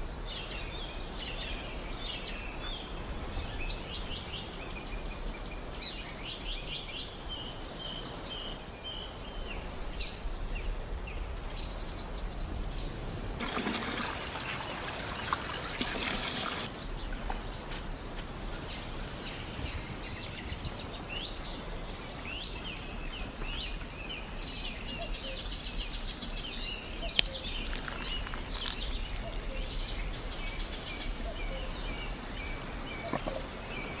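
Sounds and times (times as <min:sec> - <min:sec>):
small birds chirping: 0:00.0 - 0:10.7, 0:11.6 - 0:34.0
outdoor background hiss: 0:00.0 - 0:34.0.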